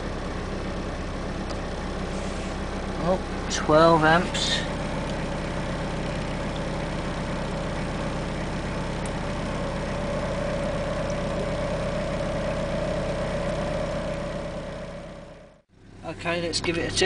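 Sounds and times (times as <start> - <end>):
mid-pitched whine: 0.0 - 17.0
van engine idling: 0.0 - 17.0.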